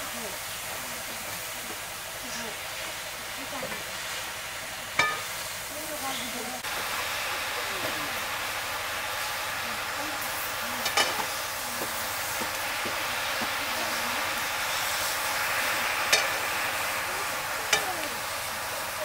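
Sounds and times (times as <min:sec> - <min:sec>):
greens sizzling in a pan: 0:00.0 - 0:19.0.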